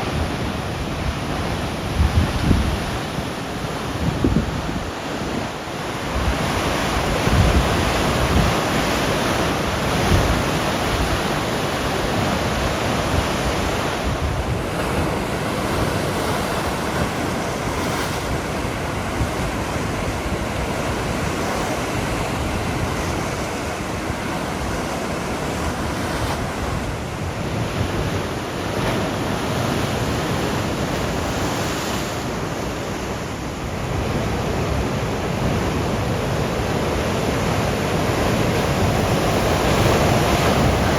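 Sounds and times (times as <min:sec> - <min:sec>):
surf breaking on shore: 0:00.0 - 0:40.9
wind rumbling on microphone: 0:00.0 - 0:40.9.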